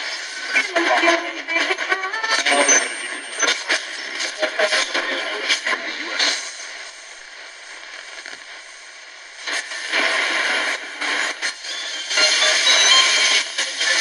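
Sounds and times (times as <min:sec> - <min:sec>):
radio hiss and crackle: 0:00.0 - 0:14.0.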